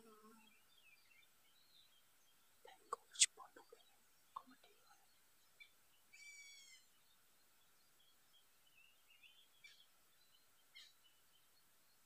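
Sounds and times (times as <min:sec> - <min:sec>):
faint bird calls and chirps: 0:00.0 - 0:12.0.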